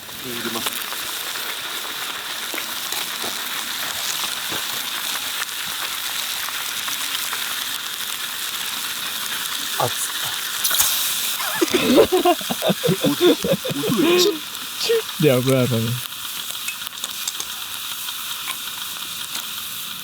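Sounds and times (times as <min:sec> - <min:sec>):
food sizzling on a stove: 0:00.0 - 0:20.0.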